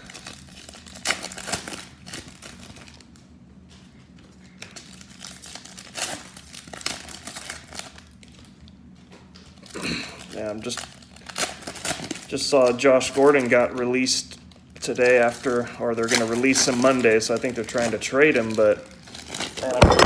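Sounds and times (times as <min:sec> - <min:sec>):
foil wrapper crinkling and tearing: 0:00.0 - 0:03.3, 0:04.1 - 0:20.0.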